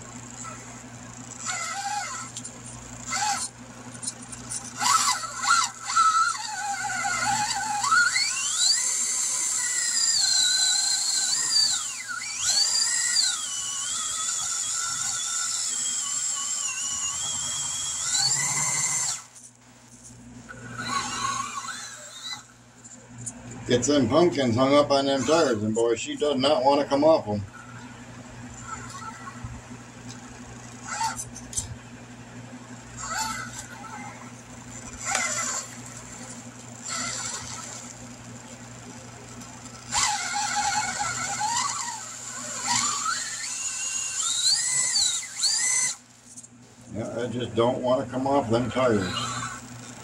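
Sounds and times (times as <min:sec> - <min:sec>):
electric motor whining: 0:00.0 - 0:31.8, 0:32.8 - 0:50.0.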